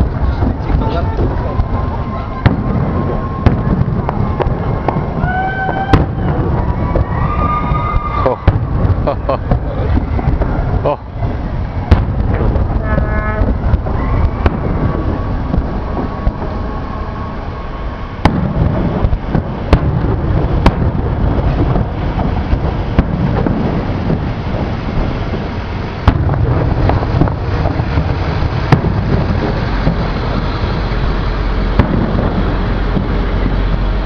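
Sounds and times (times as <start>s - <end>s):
firework shells bursting: 0.0s - 34.0s
steady low background noise: 0.0s - 34.0s.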